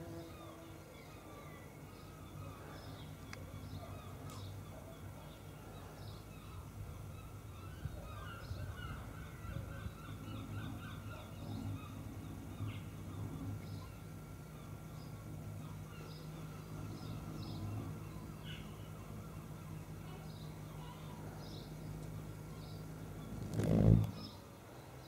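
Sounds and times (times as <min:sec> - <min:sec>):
birds chirping: 0:00.0 - 0:25.0
low steady hum: 0:00.0 - 0:25.0.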